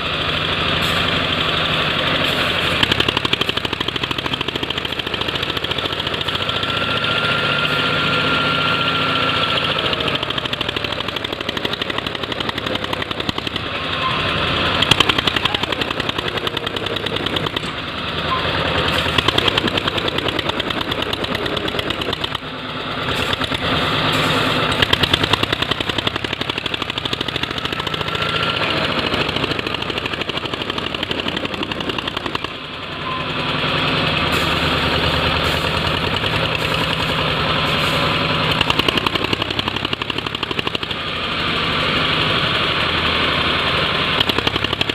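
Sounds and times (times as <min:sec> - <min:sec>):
tractor diesel engine knocking: 0:00.0 - 0:44.9.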